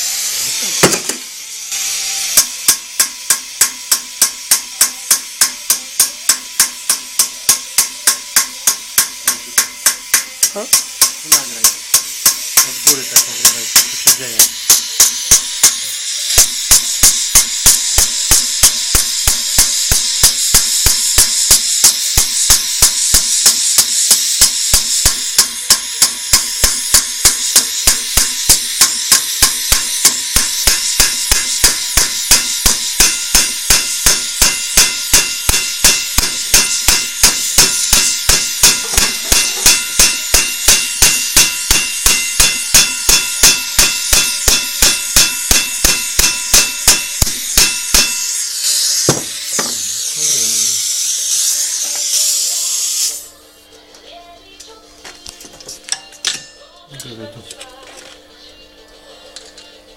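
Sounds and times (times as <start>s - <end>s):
gas torch flame hiss: 0.0s - 53.3s
hammer striking metal: 0.7s - 1.3s, 2.3s - 50.1s, 55.9s - 56.7s.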